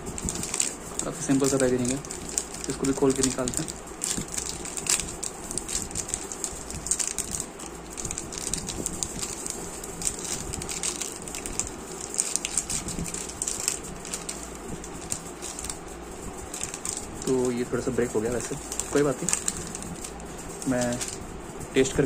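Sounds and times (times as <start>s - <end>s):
foil wrapper crinkling: 0.0s - 22.0s.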